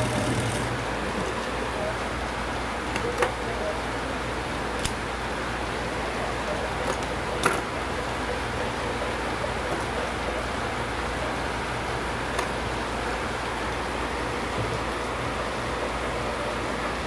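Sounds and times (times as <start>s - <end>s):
room hum and hiss: 0.0s - 17.0s.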